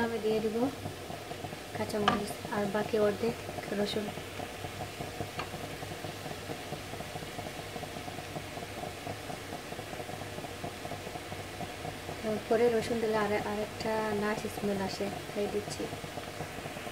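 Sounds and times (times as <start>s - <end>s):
food sizzling in a frying pan: 0.0s - 16.9s.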